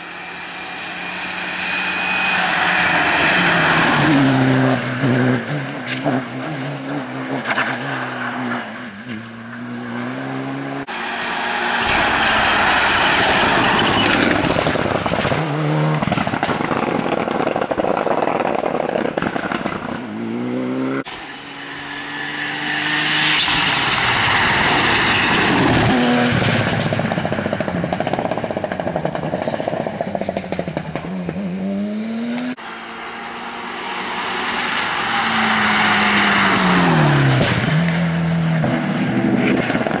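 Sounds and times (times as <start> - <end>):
rally cars accelerating past: 0.0 - 40.0.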